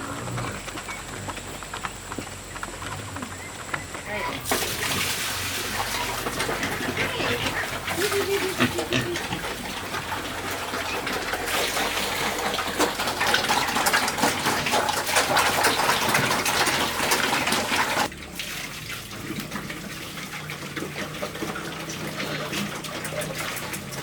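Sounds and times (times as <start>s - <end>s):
water running and splashing: 4.1s - 24.0s
water spattering: 4.1s - 24.0s.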